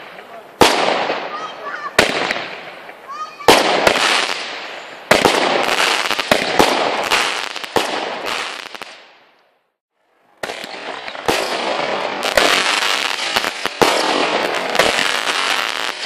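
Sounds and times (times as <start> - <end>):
fireworks bangs: 0.0 - 9.3, 10.4 - 16.0.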